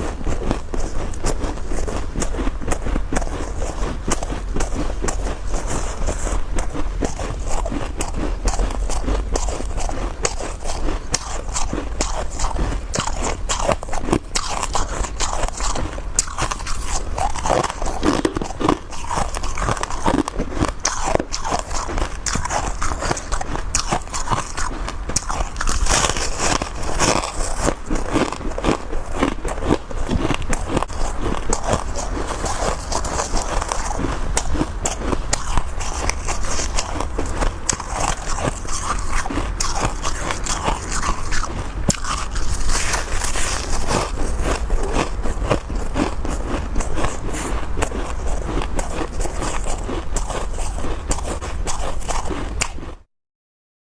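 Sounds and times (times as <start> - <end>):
chewing crunchy frost chunks: 0.0 - 53.1.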